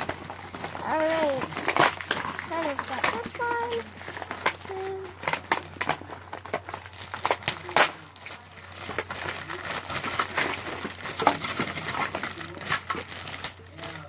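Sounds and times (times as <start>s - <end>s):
plastic packaging crinkling: 0.0s - 14.0s
plastic pieces clicking: 0.0s - 14.0s.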